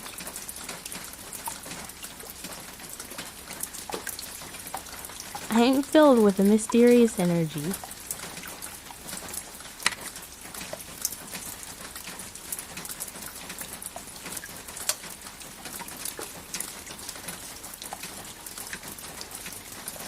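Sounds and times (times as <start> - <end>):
raindrops ticking on a surface: 0.0 - 20.0
steady rain hiss: 0.0 - 20.0.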